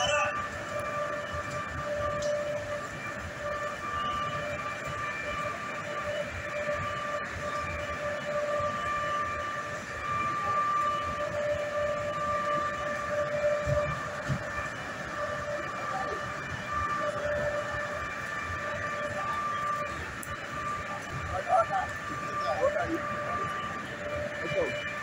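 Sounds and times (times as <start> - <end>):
machinery high whine: 0.0 - 25.0.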